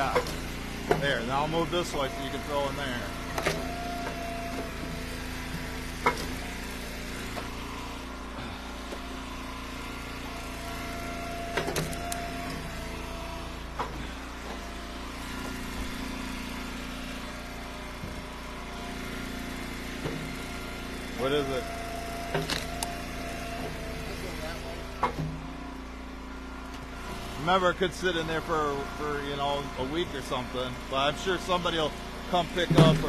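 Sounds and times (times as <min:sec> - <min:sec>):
wood splitter engine running: 0:00.0 - 0:33.0.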